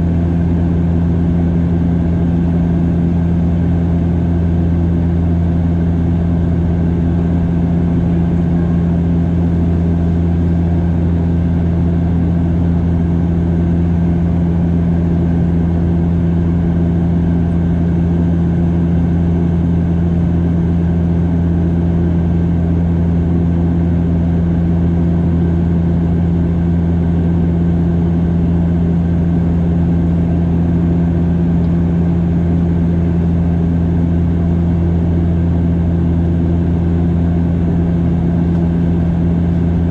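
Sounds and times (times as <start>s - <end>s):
propeller drone in aircraft cabin: 0.0s - 39.9s.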